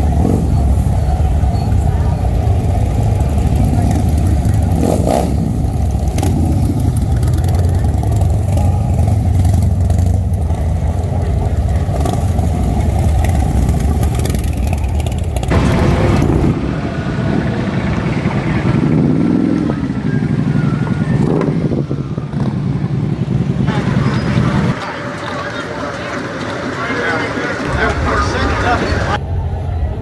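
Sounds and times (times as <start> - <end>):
engine pitch rising and falling: 0.0 - 30.0
motorcycle engines rumbling: 0.0 - 30.0.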